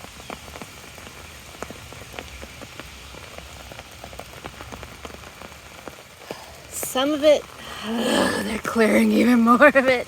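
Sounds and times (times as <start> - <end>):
rain on an umbrella: 0.0 - 10.0.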